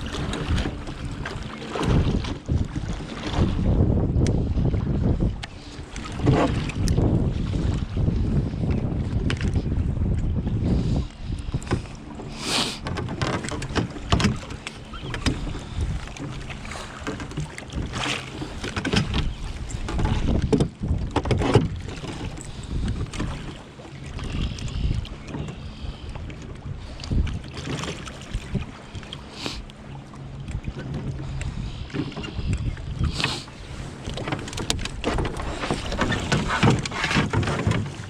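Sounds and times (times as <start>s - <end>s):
gear knocking in boat: 0.0s - 38.0s
water slapping against hull: 0.0s - 38.0s
wind rumble on microphone: 0.0s - 38.0s.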